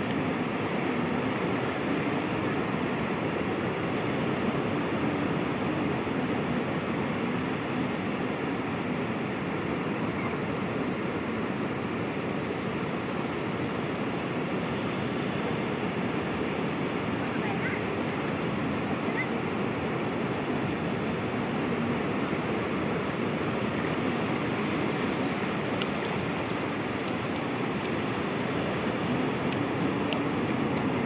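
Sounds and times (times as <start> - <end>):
sea waves washing on shore: 0.0 - 31.0.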